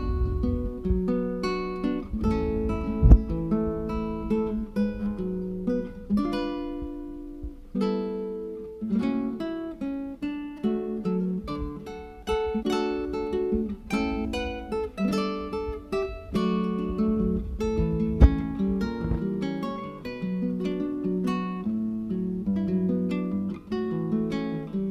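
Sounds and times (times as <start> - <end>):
acoustic guitar strumming: 0.0 - 24.9.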